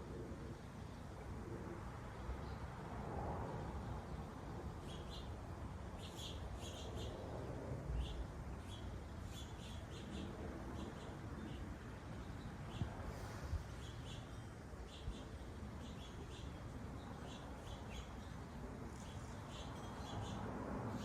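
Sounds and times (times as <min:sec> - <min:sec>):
low background noise: 0:00.0 - 0:21.0
small birds chirping: 0:03.8 - 0:21.0.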